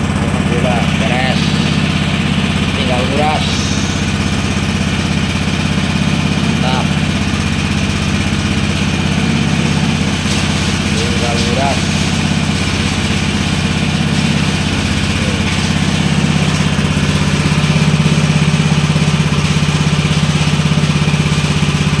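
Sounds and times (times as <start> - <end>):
petrol engine water pump running: 0.0 - 22.0.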